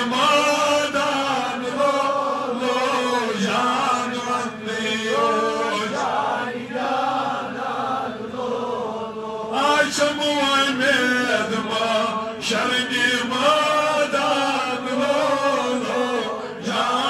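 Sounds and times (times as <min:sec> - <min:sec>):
man chanting devotional poem: 0:00.0 - 0:06.7, 0:09.2 - 0:17.0.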